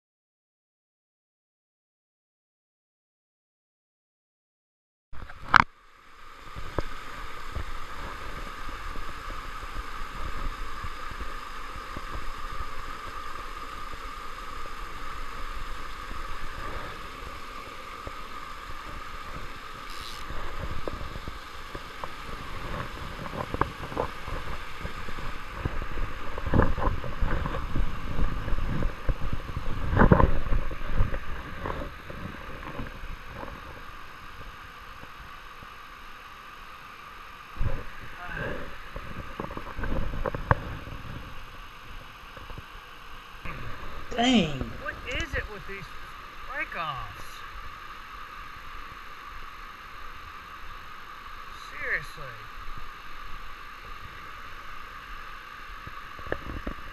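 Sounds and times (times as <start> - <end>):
stream running over rocks: 5.2 - 56.9.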